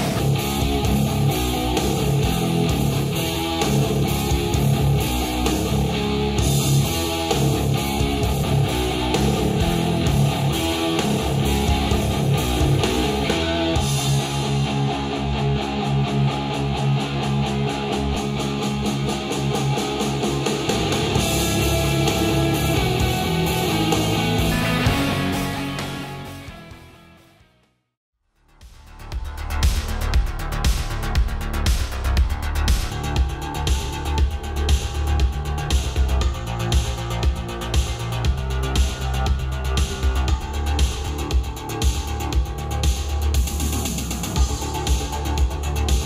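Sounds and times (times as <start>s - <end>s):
music through studio speakers: 0.0s - 27.5s, 28.6s - 46.0s.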